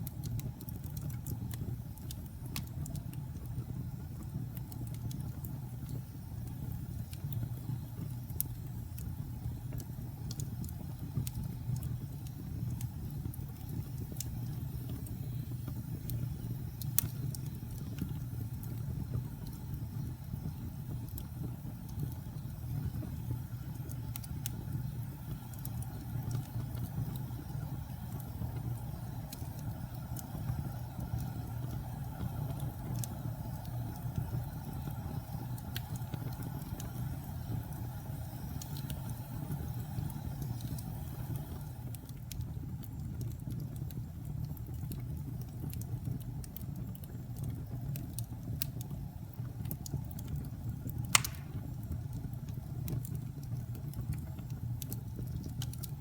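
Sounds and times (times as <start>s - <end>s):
fire crackling: 0.0s - 56.0s
fire popping: 0.0s - 56.0s
wood fire rumbling: 0.0s - 56.0s.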